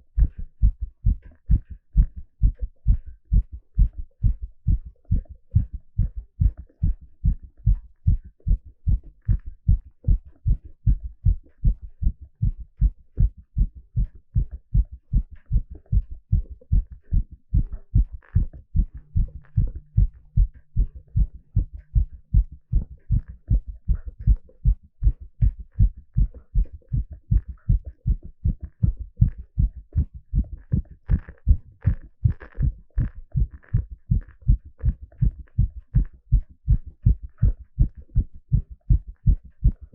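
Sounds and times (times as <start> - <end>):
heartbeat through a stethoscope: 0.0 - 39.9.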